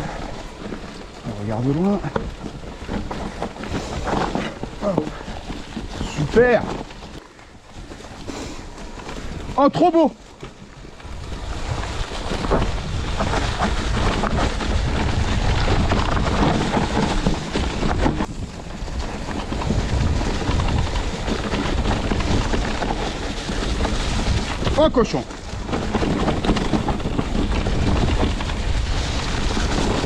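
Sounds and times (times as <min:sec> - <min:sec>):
wind buffeting microphone: 0:00.0 - 0:09.6, 0:10.8 - 0:30.0
bike tyres rumbling on dirt trail: 0:00.0 - 0:30.0.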